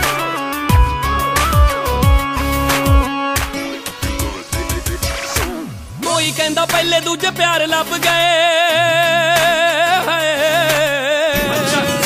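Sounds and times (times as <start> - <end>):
pop song with held vocal note: 0.0 - 12.0.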